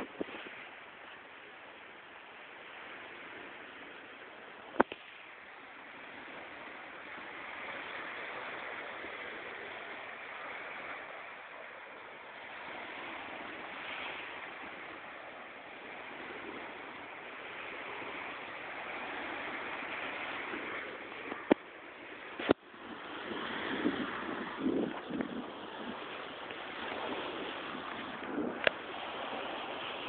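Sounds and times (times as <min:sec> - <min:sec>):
sea surf on beach: 0:00.0 - 0:30.0.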